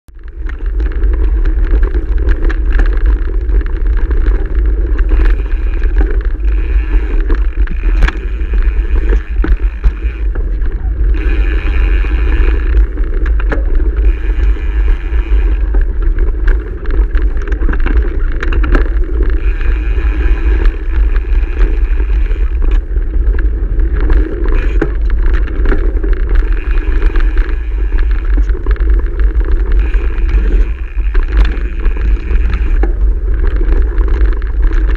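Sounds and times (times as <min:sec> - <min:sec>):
bike knocking and rattling: 0:00.1 - 0:34.9
tyres on loose gravel: 0:00.1 - 0:34.9
wind buffeting microphone: 0:00.1 - 0:34.9.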